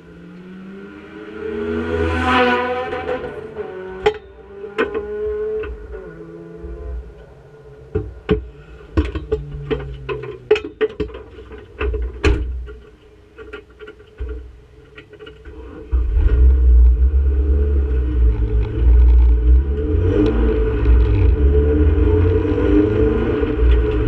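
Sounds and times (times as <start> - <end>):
car engine starting and running: 0.0 - 12.2, 14.2 - 24.0.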